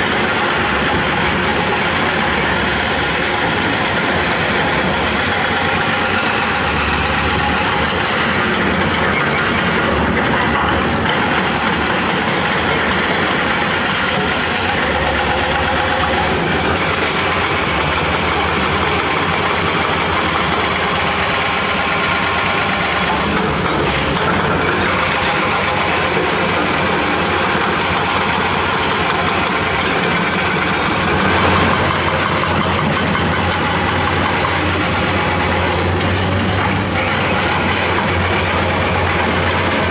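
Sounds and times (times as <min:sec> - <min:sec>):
excavator diesel engines running: 0:00.0 - 0:39.9.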